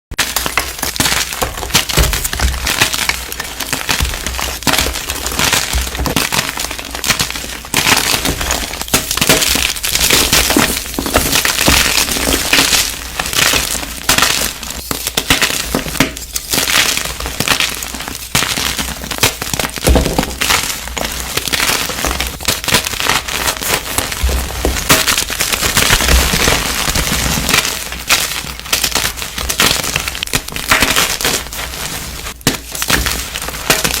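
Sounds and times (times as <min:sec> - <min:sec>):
chalk crackling and crunching: 0:00.2 - 0:34.0.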